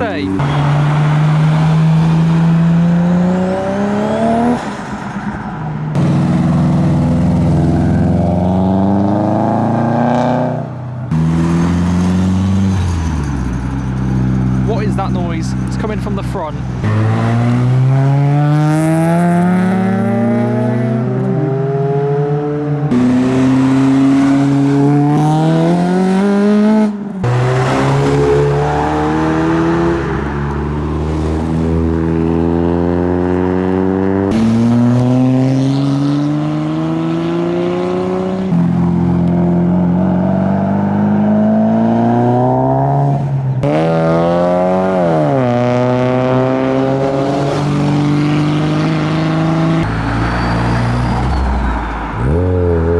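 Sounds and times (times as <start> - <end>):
cars accelerating: 0.0 - 52.9.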